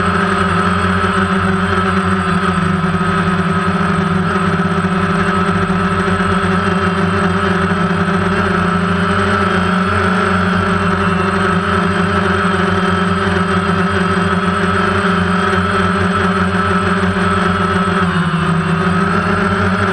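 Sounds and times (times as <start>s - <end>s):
drone propellers whirring: 0.0s - 19.9s.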